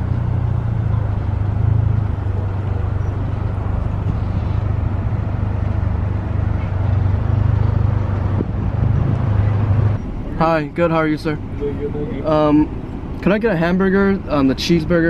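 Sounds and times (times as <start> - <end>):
car engine humming: 0.0 - 15.0
road and air noise: 0.0 - 15.0.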